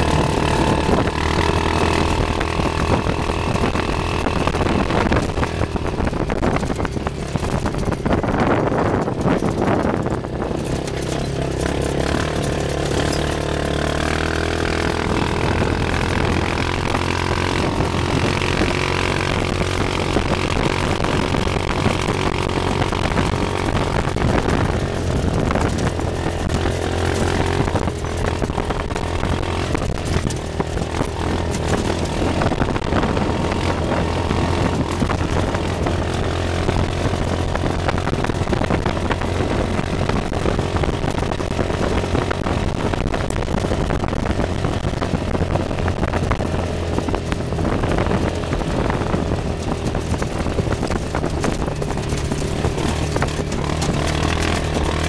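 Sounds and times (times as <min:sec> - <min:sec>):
buggy engine running: 0:00.0 - 0:55.0
road noise: 0:00.0 - 0:55.0
wind noise: 0:00.0 - 0:55.0.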